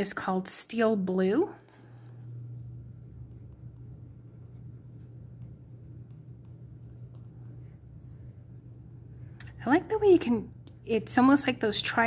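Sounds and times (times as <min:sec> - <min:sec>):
steady low hum: 0:00.9 - 0:12.0
pencil scratching on paper: 0:01.6 - 0:12.0.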